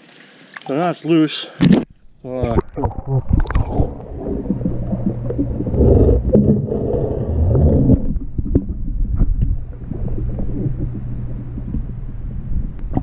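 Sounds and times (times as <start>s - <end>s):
muffled underwater water sloshing: 1.6s - 13.0s.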